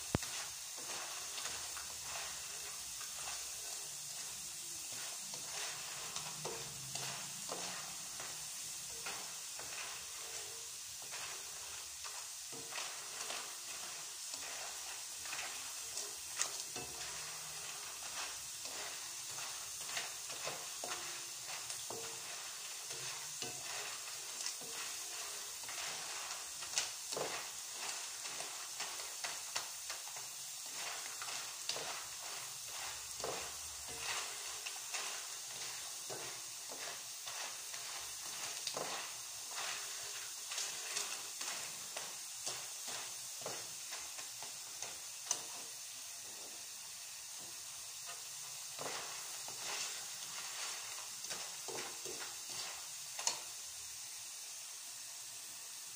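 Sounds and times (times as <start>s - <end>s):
spatula scraping and knocking pan: 0.0s - 53.6s
food sizzling in hot oil: 0.0s - 55.9s.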